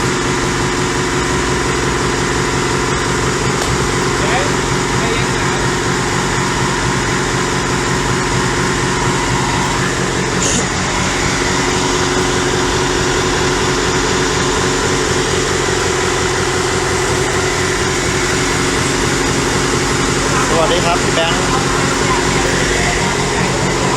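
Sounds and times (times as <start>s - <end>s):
boat diesel engine droning: 0.0s - 23.9s.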